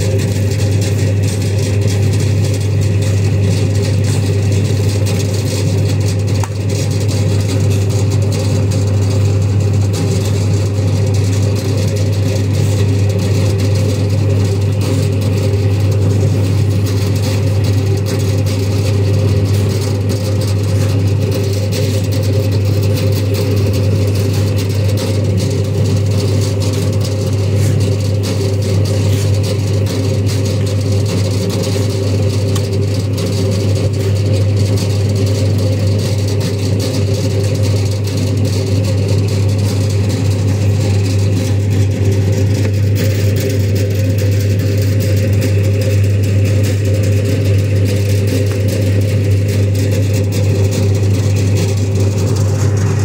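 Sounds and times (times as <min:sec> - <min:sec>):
vehicle engine droning: 0:00.0 - 0:53.0.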